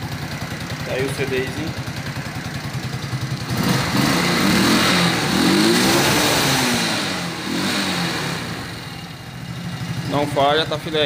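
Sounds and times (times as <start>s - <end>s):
moped engine revving: 0.0s - 11.0s.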